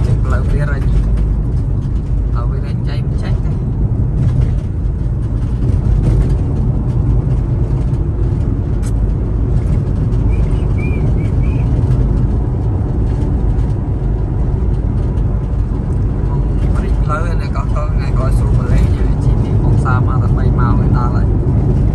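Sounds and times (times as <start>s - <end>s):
car engine rumble inside cabin: 0.0s - 21.9s
tyre road noise: 0.0s - 21.9s.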